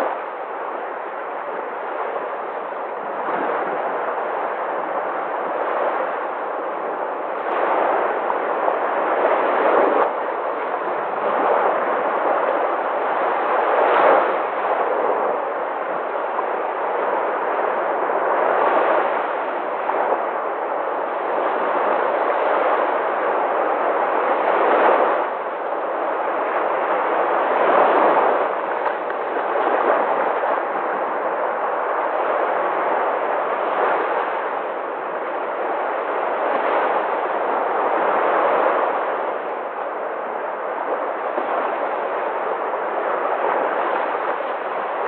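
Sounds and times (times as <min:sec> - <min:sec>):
sea waves breaking: 0:00.0 - 0:45.0.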